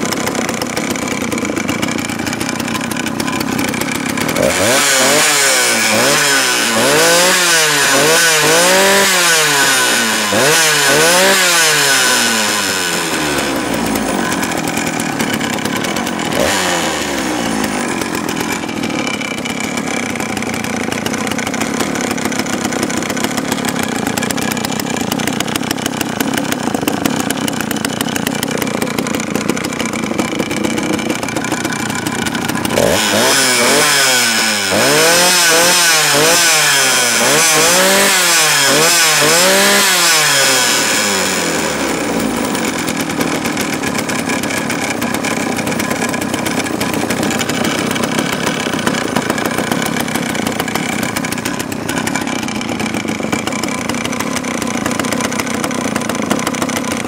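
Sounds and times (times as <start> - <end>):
chainsaw engine running and revving: 0.0 - 57.0.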